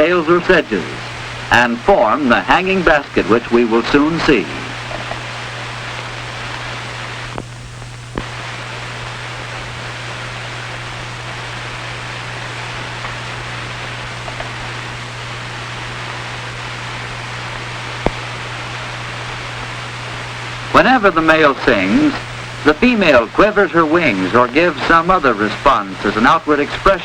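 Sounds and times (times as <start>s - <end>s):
film soundtrack hiss and hum: 0.0s - 27.0s.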